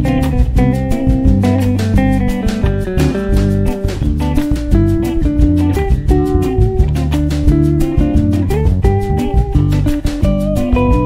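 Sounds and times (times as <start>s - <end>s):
plucked guitar with bass and beat: 0.0s - 11.0s.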